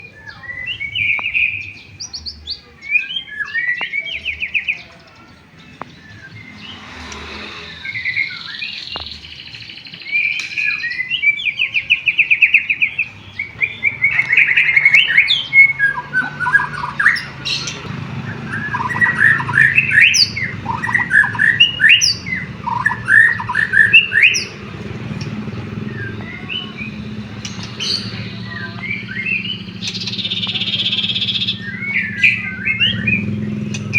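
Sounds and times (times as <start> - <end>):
songbird singing whistled phrases: 0.0 - 6.9, 7.8 - 33.9.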